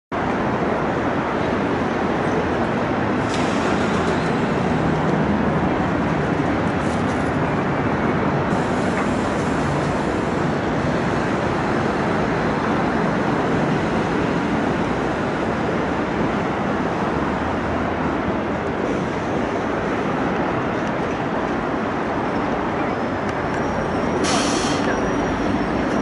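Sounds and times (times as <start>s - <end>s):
city traffic din: 0.1s - 26.0s.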